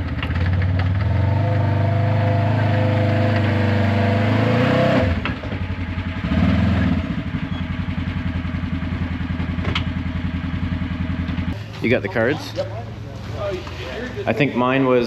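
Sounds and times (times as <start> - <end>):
atv engine idling and revving: 0.0 - 15.0.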